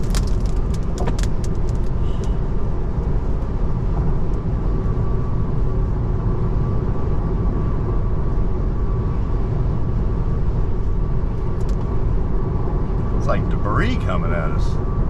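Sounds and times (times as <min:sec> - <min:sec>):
road and tyre noise on wet road: 0:00.0 - 0:15.0.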